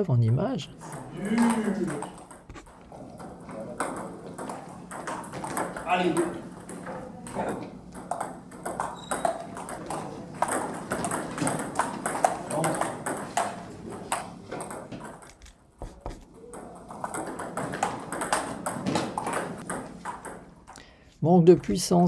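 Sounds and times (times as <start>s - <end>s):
table tennis balls clicking: 0.3s - 20.9s.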